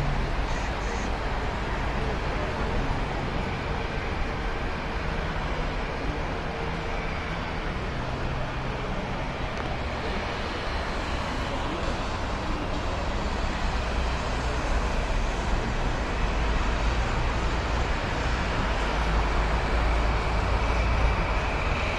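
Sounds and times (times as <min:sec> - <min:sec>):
road traffic noise: 0:00.0 - 0:21.9.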